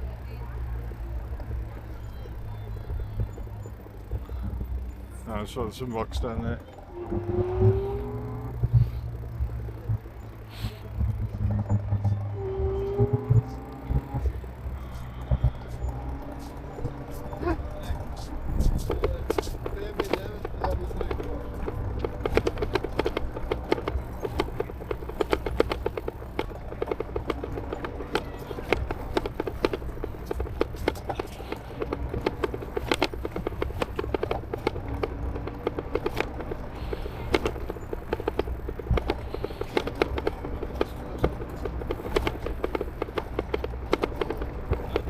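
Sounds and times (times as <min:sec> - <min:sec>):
bike rattling over paving: 0:00.0 - 0:45.0.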